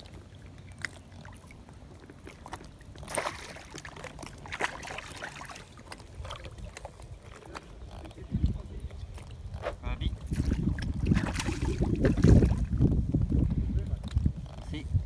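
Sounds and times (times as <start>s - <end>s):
water sloshing and splashing: 0.0s - 13.2s.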